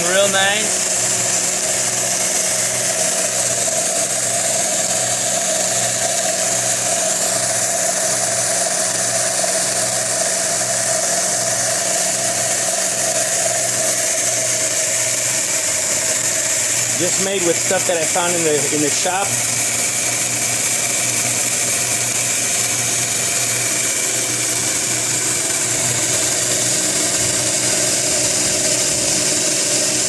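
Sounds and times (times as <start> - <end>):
belt sander running: 0.0 - 30.0.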